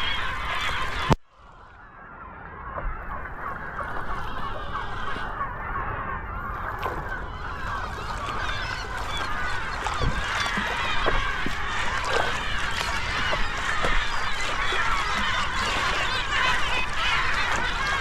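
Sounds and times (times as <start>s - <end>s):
flock of seagulls calling: 0.0s - 18.0s.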